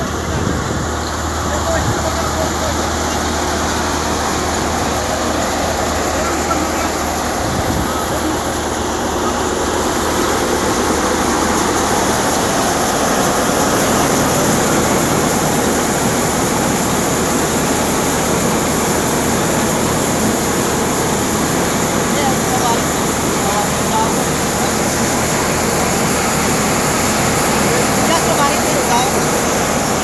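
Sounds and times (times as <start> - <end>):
thresher and tractor engine din: 0.0 - 30.0.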